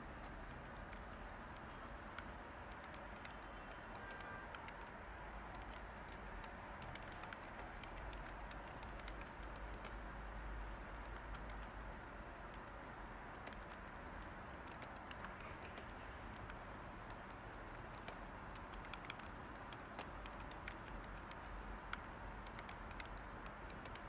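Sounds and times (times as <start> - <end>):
keyboard key clicks: 0.2 - 4.9, 5.5 - 10.0, 10.9 - 11.7, 13.3 - 24.0.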